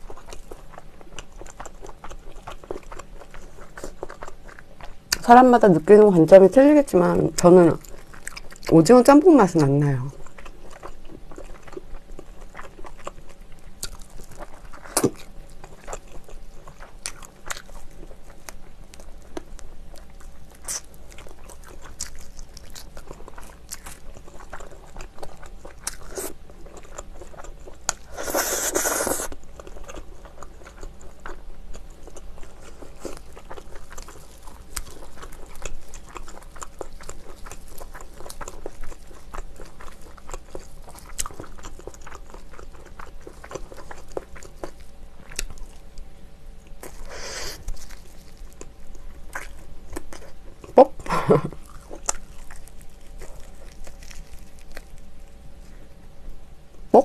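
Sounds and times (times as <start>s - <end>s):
chewing crunchy fried chicken: 0.0s - 57.0s.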